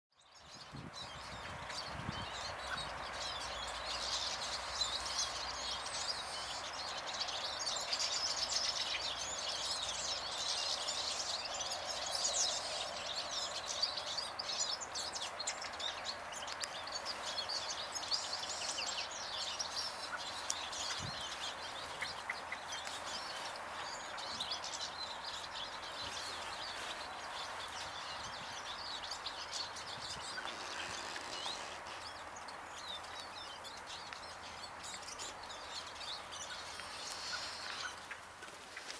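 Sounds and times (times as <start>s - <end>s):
small birds chirping and singing: 0.1s - 38.9s.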